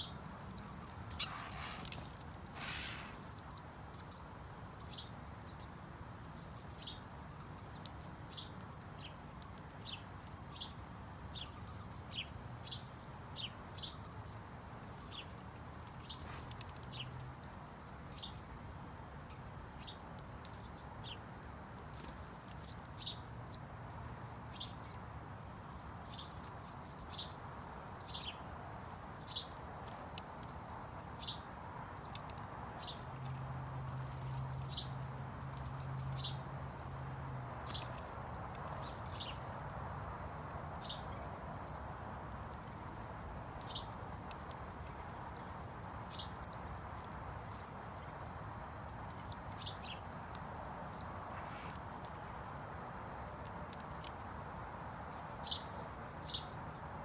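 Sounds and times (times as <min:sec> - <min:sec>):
insects droning and trilling: 0:00.0 - 0:57.0.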